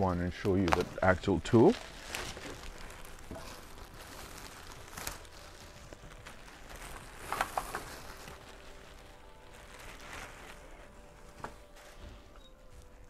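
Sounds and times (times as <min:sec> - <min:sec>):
faint handling noise: 0:00.0 - 0:13.0
packaging rustles and knocks: 0:00.5 - 0:13.0.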